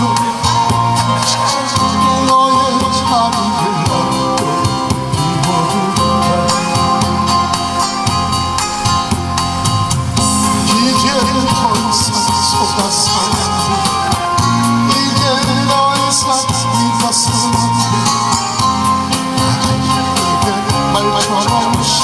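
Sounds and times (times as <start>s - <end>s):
man singing into a microphone: 0.0s - 8.0s, 10.2s - 22.0s
amplified music with steady beat: 0.0s - 22.0s.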